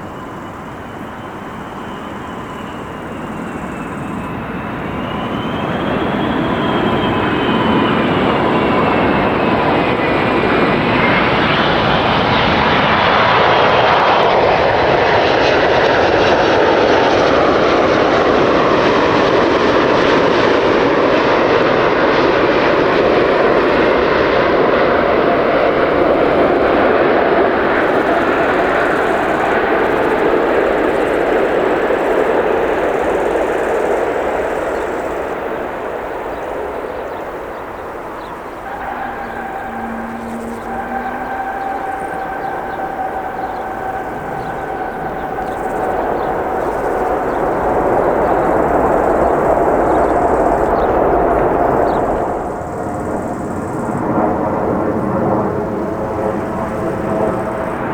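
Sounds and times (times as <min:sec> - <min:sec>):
high jet engine whine: 0:00.0 - 0:57.9
jet engines roaring: 0:00.0 - 0:57.9.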